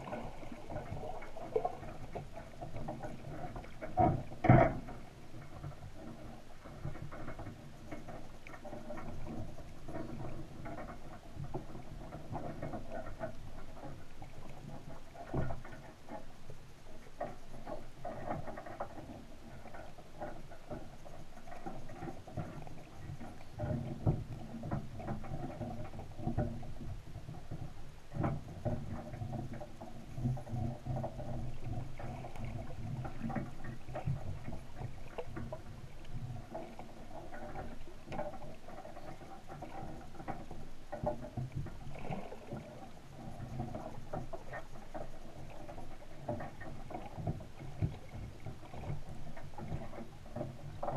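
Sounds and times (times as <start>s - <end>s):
steady low underwater hum: 0.0s - 50.9s
underwater clicking and crackling: 0.0s - 50.9s.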